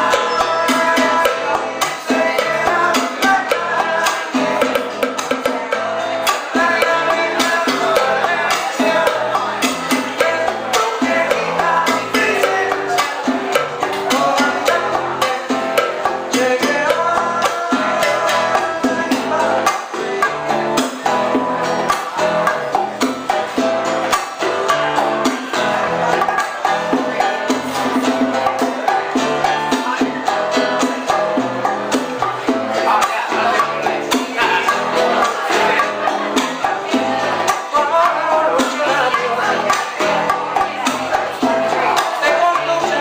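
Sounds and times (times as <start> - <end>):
cuban band music: 0.0 - 43.0
percussion dance rhythm: 0.0 - 43.0.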